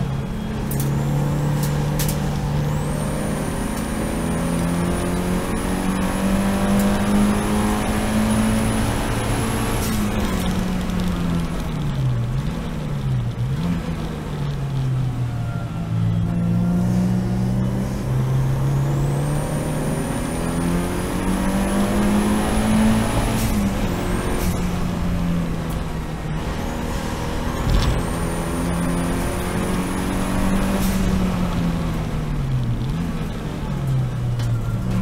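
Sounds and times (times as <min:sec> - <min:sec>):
race car engine accelerating: 0:00.0 - 0:14.8, 0:16.3 - 0:35.0.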